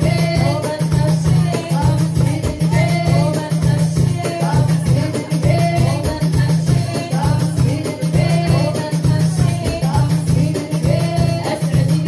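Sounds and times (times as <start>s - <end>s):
driving drum beat: 0.0s - 12.0s
jingling hand percussion: 0.0s - 12.0s.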